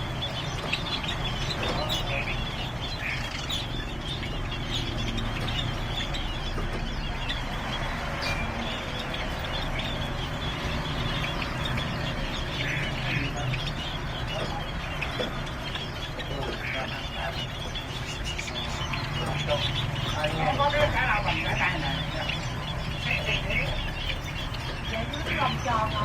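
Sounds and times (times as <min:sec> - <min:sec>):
caged birds chirping: 0:00.0 - 0:26.0.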